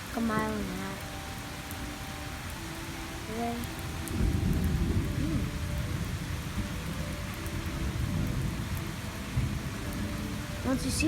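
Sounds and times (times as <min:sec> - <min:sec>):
steady rain: 0:00.0 - 0:11.0
thunder rumbling: 0:00.0 - 0:11.0.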